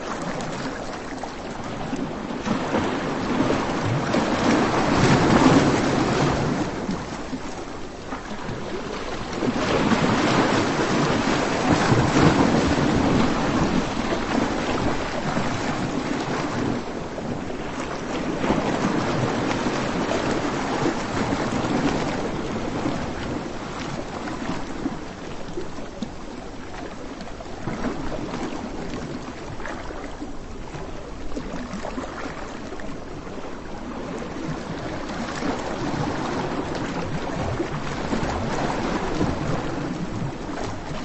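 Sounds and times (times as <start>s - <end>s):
waves breaking on beach: 0.0s - 41.0s.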